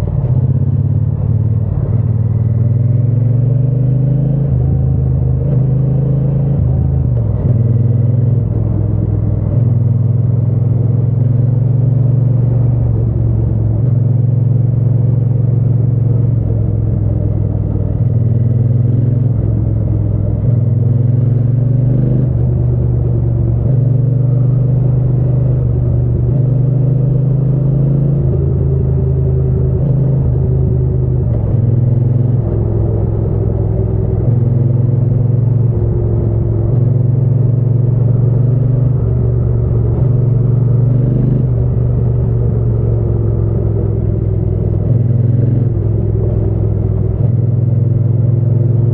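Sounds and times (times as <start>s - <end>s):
motorcycle engine and exhaust: 0.0s - 48.9s.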